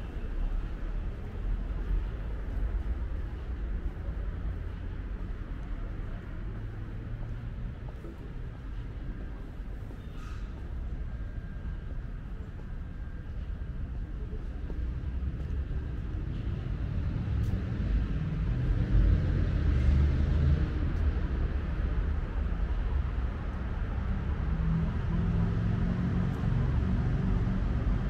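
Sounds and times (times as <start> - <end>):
traffic engine and tyre rumble: 0.0 - 28.0.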